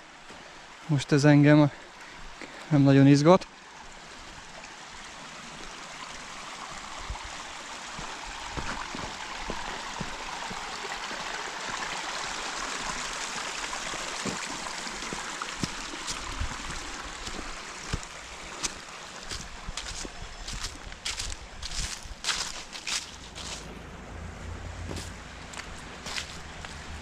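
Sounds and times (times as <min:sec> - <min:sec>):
mountain brook rushing: 0:00.0 - 0:27.0.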